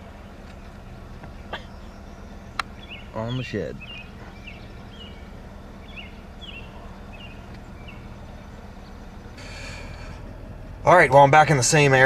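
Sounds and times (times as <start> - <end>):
low background rumble: 0.0 - 12.0
small bird chirping: 0.1 - 10.8.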